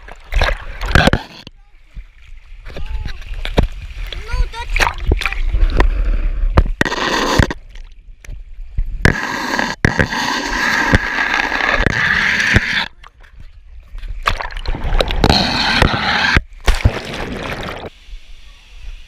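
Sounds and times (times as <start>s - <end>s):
water splashing against camera lens: 0.0s - 8.4s, 9.0s - 18.0s.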